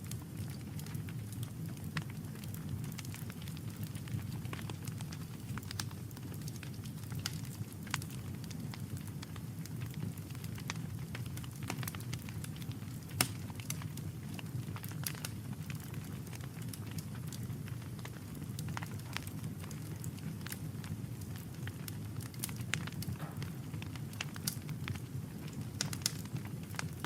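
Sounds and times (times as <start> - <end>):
campfire crackling and popping: 0.0 - 27.0
low fire rumble: 0.0 - 27.0.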